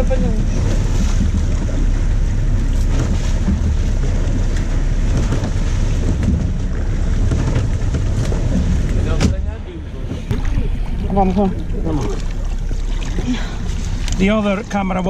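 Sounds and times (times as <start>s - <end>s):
boat engine rumble: 0.0s - 15.0s
water churning: 0.0s - 15.0s
wind buffeting microphone: 0.0s - 15.0s.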